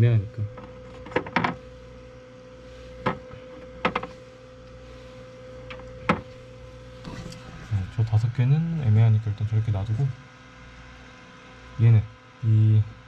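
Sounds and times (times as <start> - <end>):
incubator fan humming: 0.0 - 13.0.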